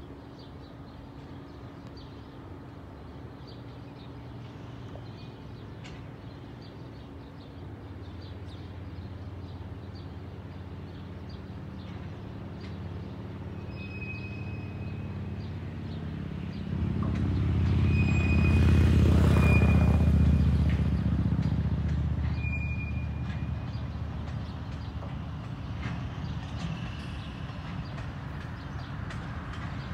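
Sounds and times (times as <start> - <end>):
locomotive engine humming: 0.0 - 29.9.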